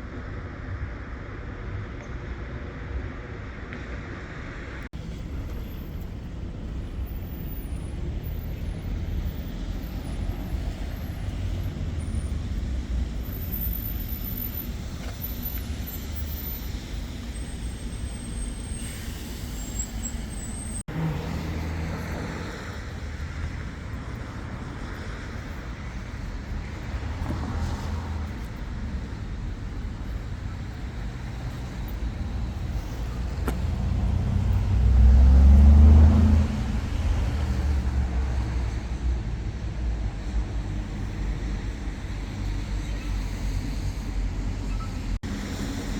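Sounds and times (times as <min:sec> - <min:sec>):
road traffic rumble: 0:00.0 - 0:45.9.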